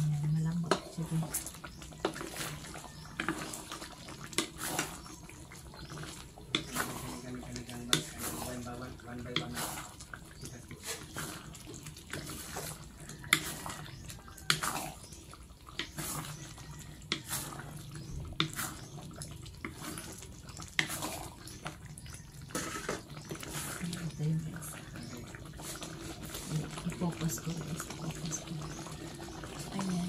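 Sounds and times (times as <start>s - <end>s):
thick sauce squelching and sloshing: 0.9s - 30.0s.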